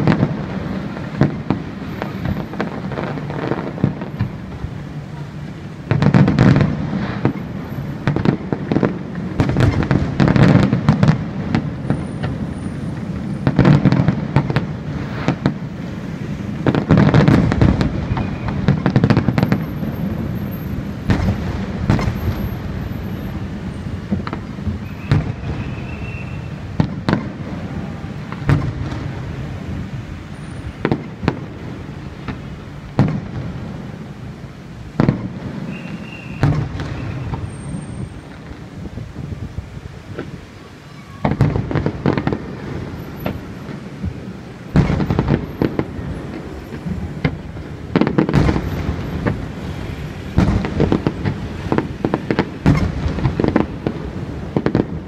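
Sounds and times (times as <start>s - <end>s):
fireworks booms and cracks: 0.0s - 55.0s.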